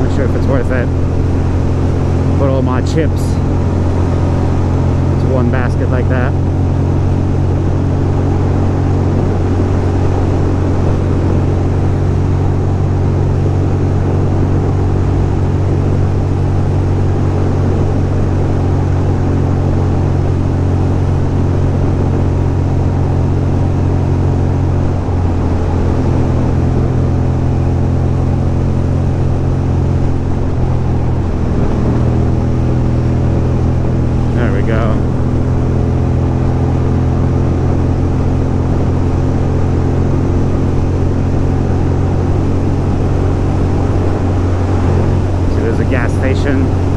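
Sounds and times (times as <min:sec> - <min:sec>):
motorcycle engine cruising: 0:00.0 - 0:46.9
wind rush over microphone: 0:00.0 - 0:46.9.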